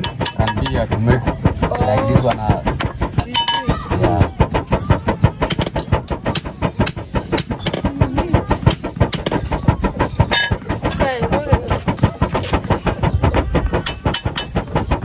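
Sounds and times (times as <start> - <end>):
bellows chugging air puffs: 0.0 - 15.0.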